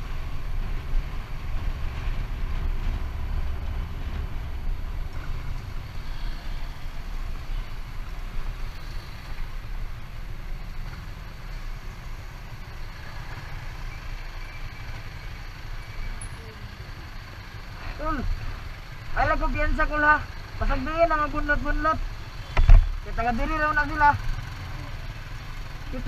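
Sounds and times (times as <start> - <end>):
vehicle engine rumble: 0.0 - 26.0.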